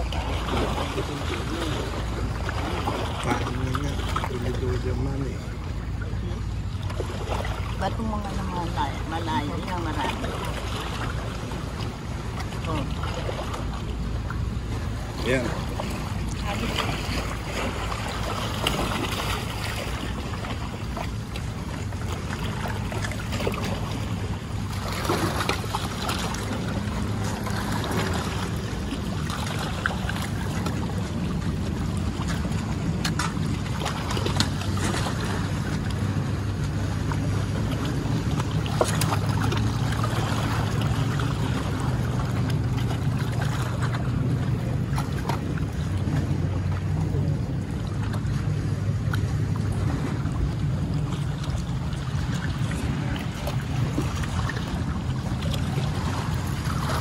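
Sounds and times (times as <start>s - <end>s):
low engine drone: 0.0s - 57.0s
wind: 0.0s - 57.0s.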